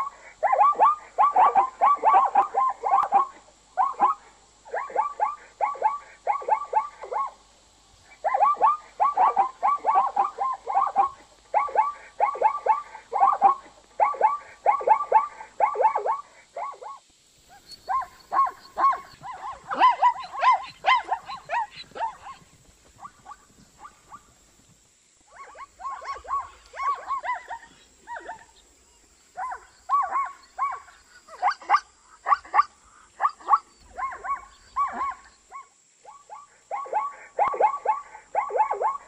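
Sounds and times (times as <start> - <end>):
zebra barking yelps: 0.0 - 7.4, 8.1 - 24.4, 25.3 - 28.7, 29.3 - 39.0.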